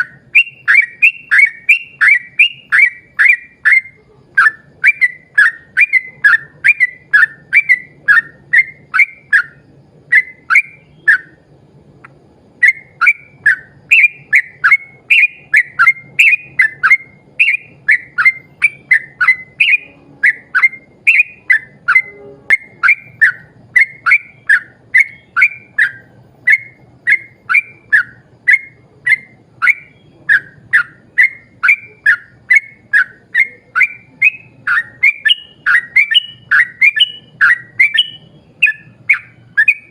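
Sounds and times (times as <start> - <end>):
bird whistling sharp notes: 0.0 - 11.5, 12.6 - 39.9.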